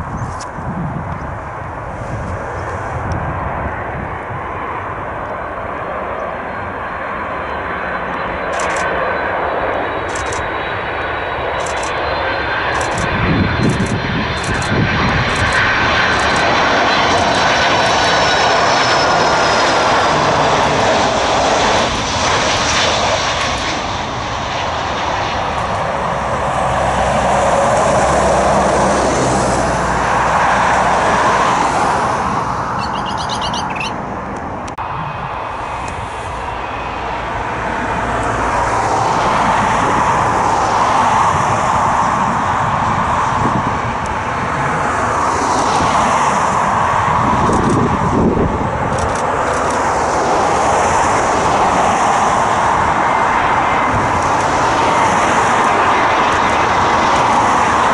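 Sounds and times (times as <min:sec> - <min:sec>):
jet airliner engines rushing and whining: 0:00.0 - 0:57.9.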